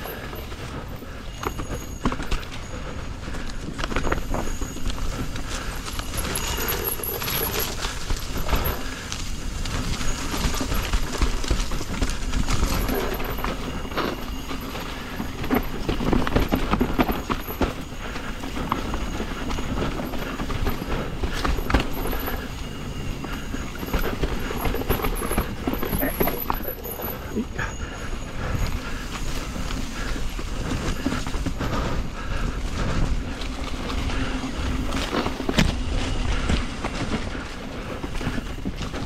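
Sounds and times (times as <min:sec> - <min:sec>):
bike rattling over rocks: 0:00.0 - 0:39.0
tyres on dirt: 0:00.0 - 0:39.0.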